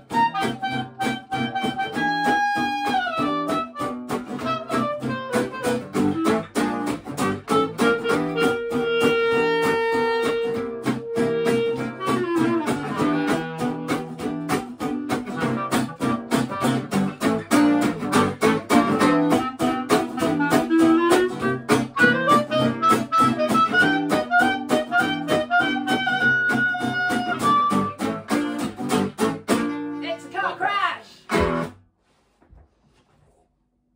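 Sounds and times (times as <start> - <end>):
clarinet solo: 0.0 - 28.4
acoustic guitars strumming: 0.0 - 31.8.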